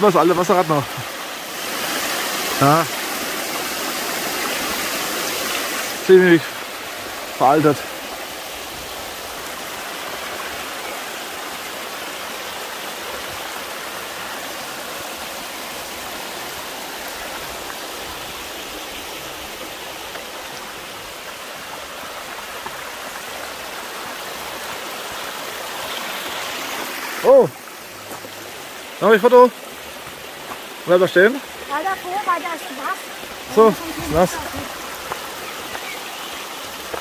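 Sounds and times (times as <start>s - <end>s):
water rushing down cascades: 0.0s - 37.0s.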